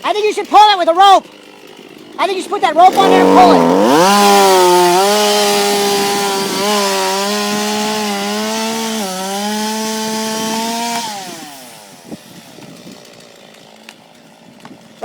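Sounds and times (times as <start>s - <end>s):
chainsaw cutting tree trunk: 0.0s - 15.0s.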